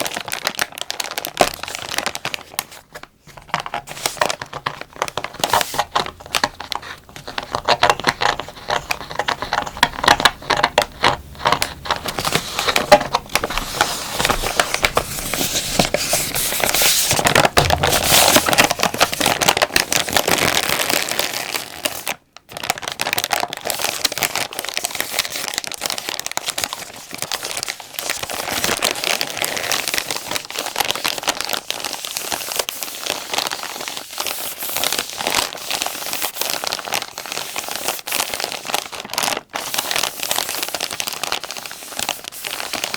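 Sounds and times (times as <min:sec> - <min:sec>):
plastic pack crinkling: 0:00.0 - 0:42.9.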